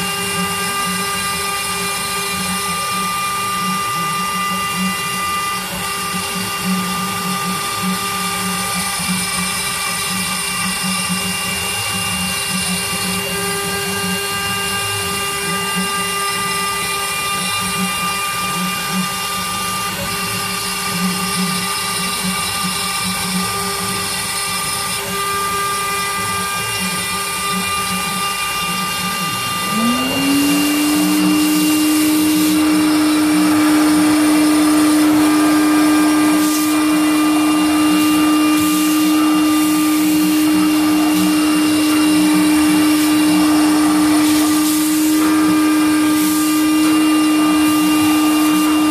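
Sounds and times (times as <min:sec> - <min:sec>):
router whining carving wood: 0:00.0 - 0:48.9
vacuum cleaner motor: 0:00.0 - 0:48.9.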